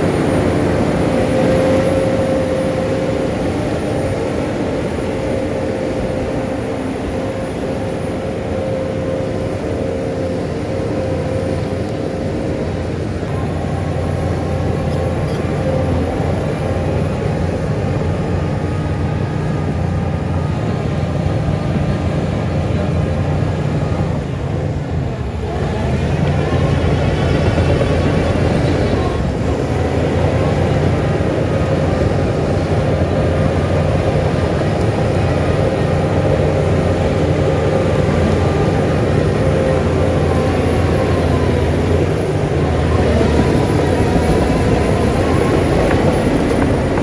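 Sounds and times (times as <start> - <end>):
heavy diesel engine running: 0.0 - 47.0.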